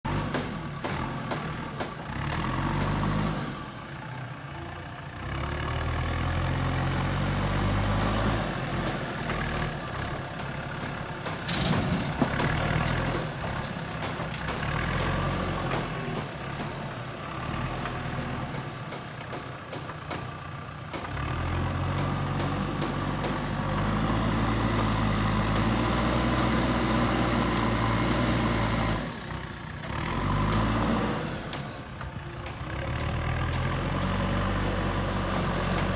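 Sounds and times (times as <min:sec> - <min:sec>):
diesel engine under hydraulic load: 0:00.1 - 0:35.9.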